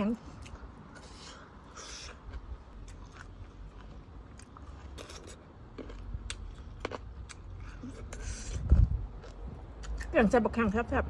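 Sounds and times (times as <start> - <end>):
person chewing and crunching: 0.3 - 10.1.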